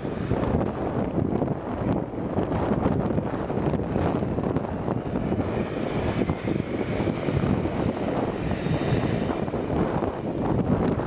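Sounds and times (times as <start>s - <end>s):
jet engines rumbling with faint whine: 0.0s - 11.0s
wind buffeting microphone: 0.0s - 11.0s.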